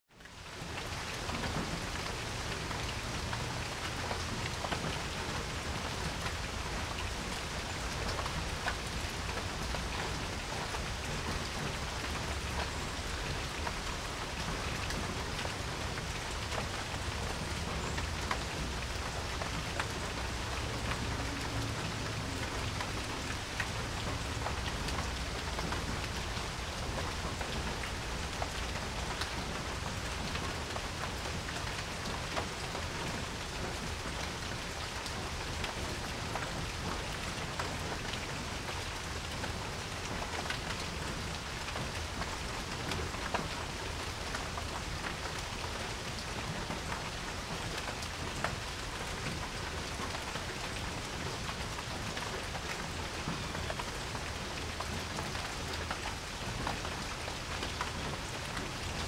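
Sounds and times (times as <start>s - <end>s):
rain falling on a porch: 0.1s - 59.0s.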